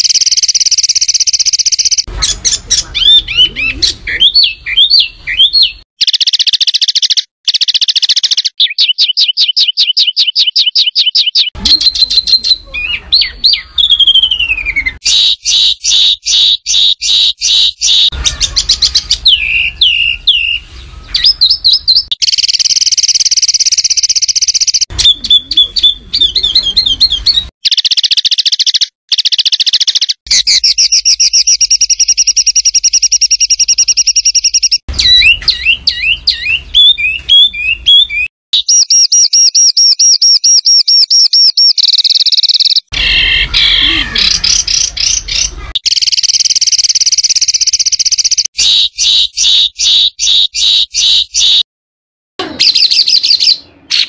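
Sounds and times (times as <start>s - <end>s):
songbird singing: 0.0s - 51.7s, 52.4s - 54.0s.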